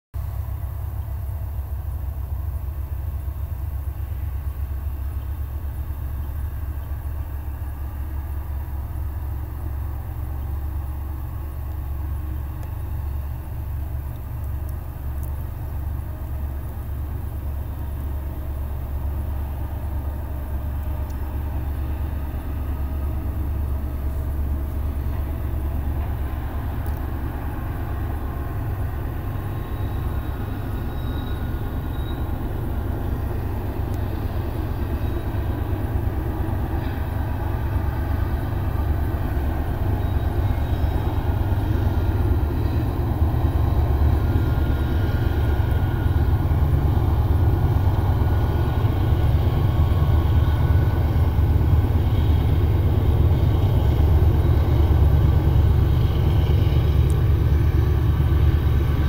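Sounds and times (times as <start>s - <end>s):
distant diesel freight train rumble: 0.1s - 59.0s.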